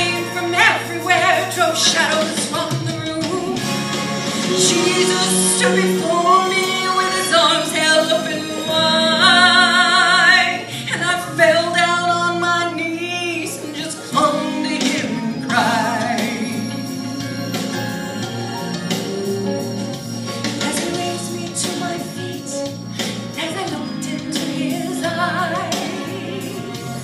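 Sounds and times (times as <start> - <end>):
woman singing gospel song: 0.0 - 3.6, 4.4 - 17.0, 20.6 - 27.0
musical accompaniment: 0.0 - 27.0.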